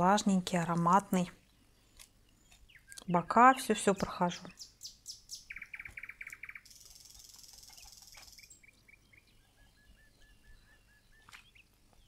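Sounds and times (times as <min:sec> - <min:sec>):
small bird chirping: 0:00.6 - 0:12.0.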